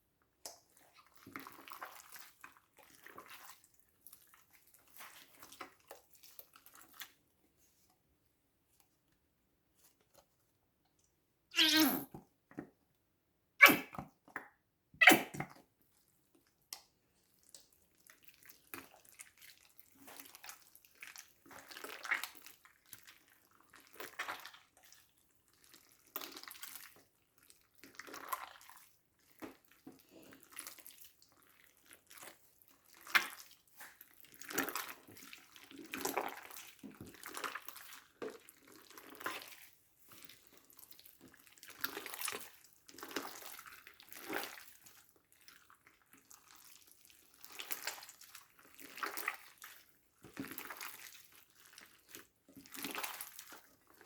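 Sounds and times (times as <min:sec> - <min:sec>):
slime squelching: 0:00.6 - 0:07.9, 0:11.6 - 0:12.1, 0:13.6 - 0:14.0, 0:15.0 - 0:16.0, 0:17.2 - 0:54.0.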